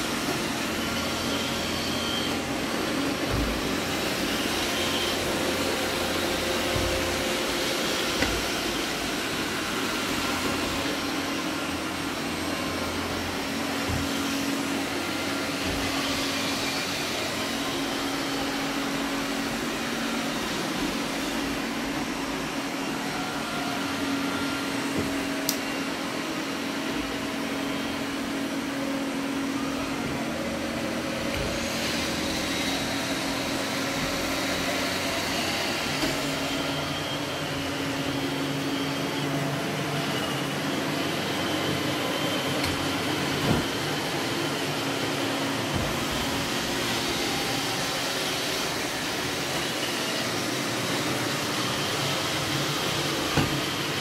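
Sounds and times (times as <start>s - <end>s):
robot vacuum motor hum: 0.0s - 54.0s.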